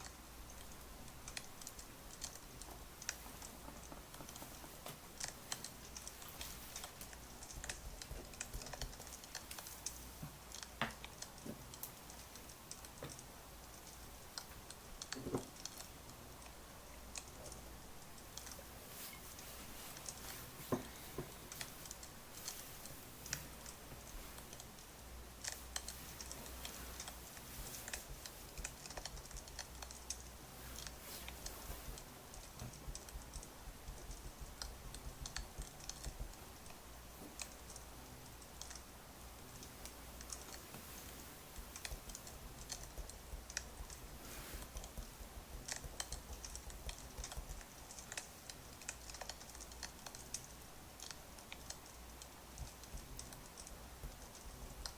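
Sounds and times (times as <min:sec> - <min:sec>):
low steady hum: 0:00.0 - 0:54.9
wood fire crackling: 0:00.0 - 0:54.9.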